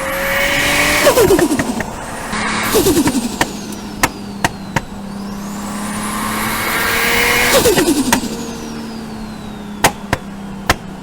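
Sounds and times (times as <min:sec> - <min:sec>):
turbo flutter chatter: 0:00.0 - 0:10.5
turbo whistle: 0:00.0 - 0:10.5
car engine revving: 0:00.0 - 0:11.0
sharp exhaust cracks: 0:00.0 - 0:11.0.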